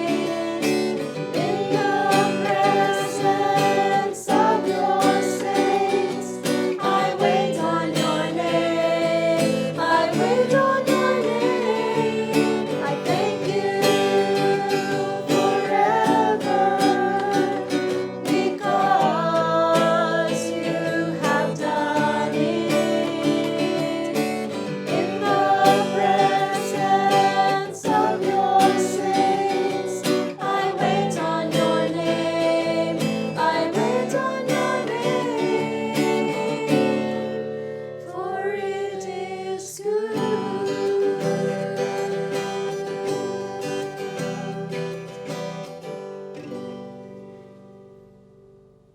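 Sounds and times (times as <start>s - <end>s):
person singing: 0.0s - 45.9s
strummed acoustic guitar: 0.0s - 48.9s.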